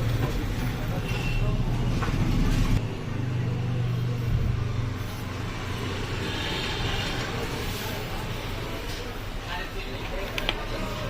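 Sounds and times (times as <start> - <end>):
motor vehicle rumble: 0.0 - 9.2.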